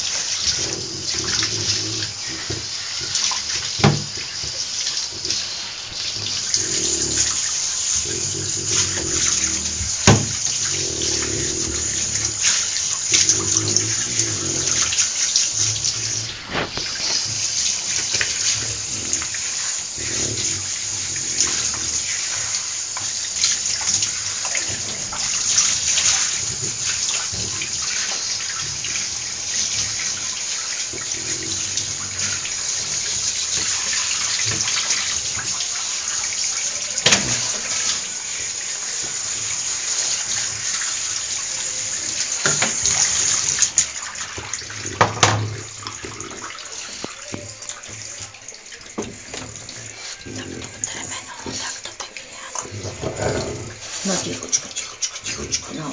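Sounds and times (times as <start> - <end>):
shower spraying water: 0.0 - 55.9.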